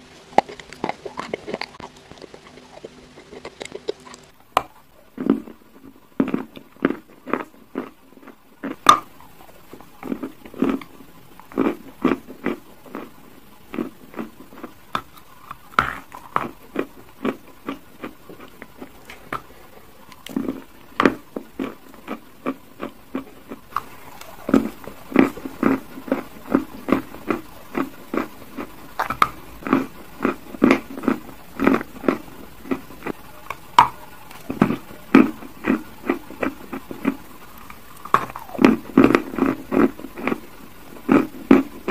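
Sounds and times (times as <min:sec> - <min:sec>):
crunchy chewing: 0:00.0 - 0:41.9.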